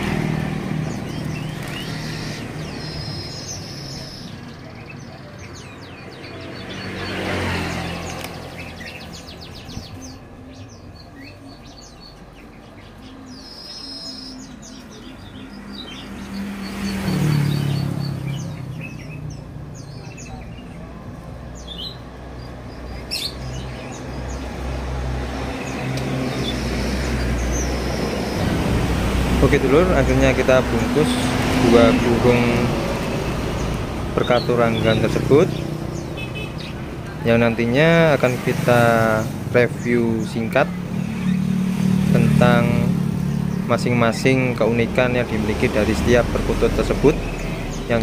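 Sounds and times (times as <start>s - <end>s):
caged birds chirping: 0.0s - 48.0s
vehicles passing: 0.0s - 48.0s.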